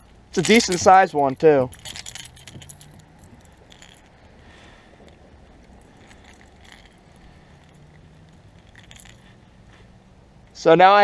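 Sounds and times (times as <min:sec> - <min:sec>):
metallic clinks of hooks: 0:00.0 - 0:09.8
handling rustle: 0:00.0 - 0:10.6.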